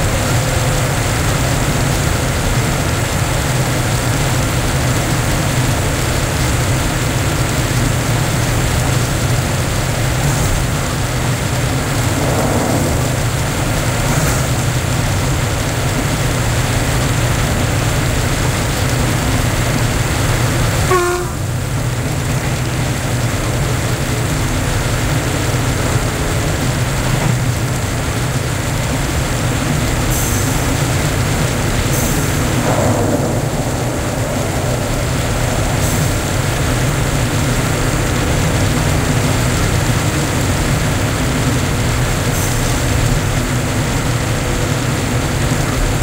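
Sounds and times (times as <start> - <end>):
rushing noise: 0.0 - 46.0
train rumble from on board: 0.0 - 46.0.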